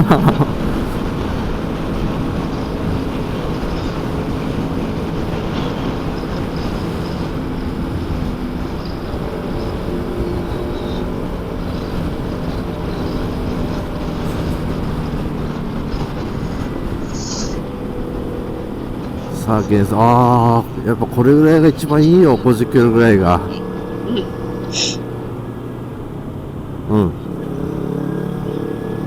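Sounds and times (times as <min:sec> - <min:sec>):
motorcycle engine cruising: 0:00.0 - 0:29.0
wind buffeting microphone: 0:00.0 - 0:29.0.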